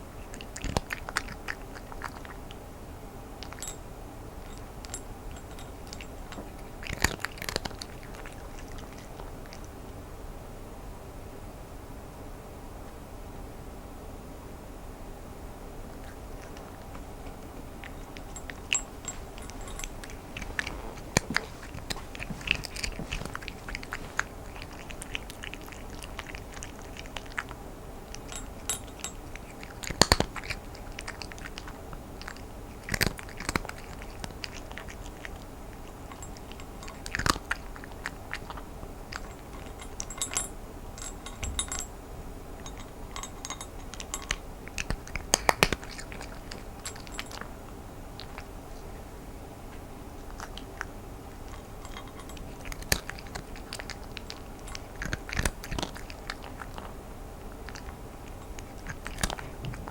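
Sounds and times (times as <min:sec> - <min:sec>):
cat crunching dry kibble: 0:00.1 - 0:02.6, 0:03.4 - 0:09.8, 0:15.8 - 0:41.9, 0:42.6 - 0:49.0, 0:50.2 - 0:59.9.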